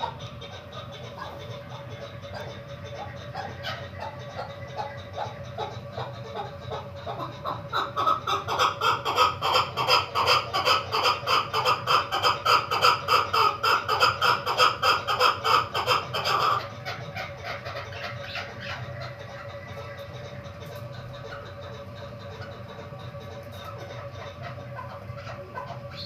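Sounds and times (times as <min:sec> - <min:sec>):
partridge clucking calls: 0:00.0 - 0:26.0.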